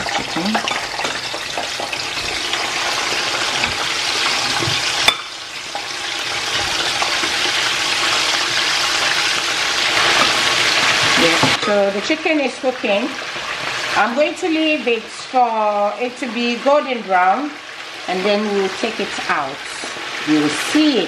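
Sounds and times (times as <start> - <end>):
chicken sizzling in frying pan: 0.0 - 21.0.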